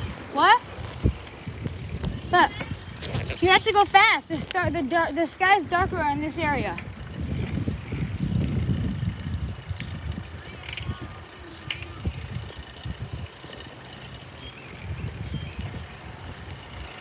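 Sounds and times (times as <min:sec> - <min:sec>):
bicycle rattles and clicks: 0:00.0 - 0:17.0
wind buffeting microphone: 0:00.0 - 0:17.0.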